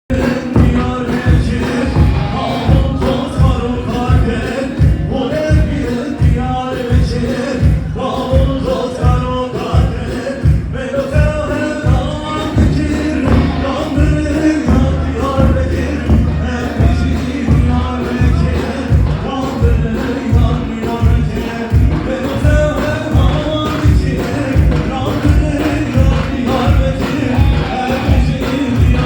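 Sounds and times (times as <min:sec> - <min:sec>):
heavy steady drum beat: 0:00.1 - 0:29.0
singing melody: 0:00.1 - 0:29.0.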